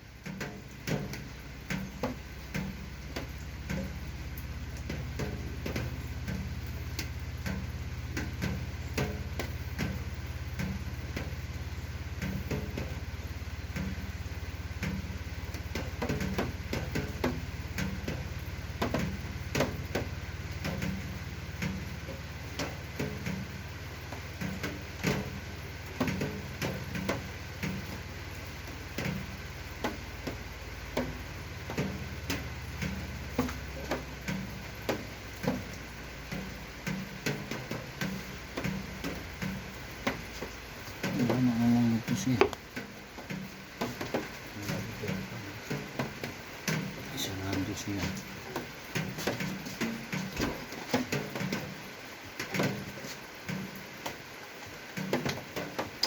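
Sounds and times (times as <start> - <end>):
steady low hum: 0.0 - 55.8
light clicks and knocks: 0.2 - 56.0.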